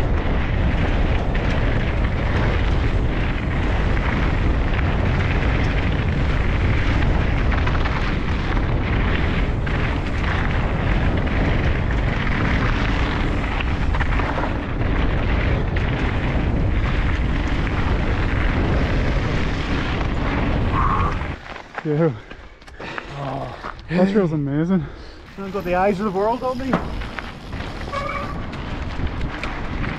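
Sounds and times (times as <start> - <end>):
tyres crunching over gravel: 0.0 - 24.4, 25.0 - 29.9
bike rattling: 0.0 - 29.9
wind rumble on microphone: 0.0 - 29.9.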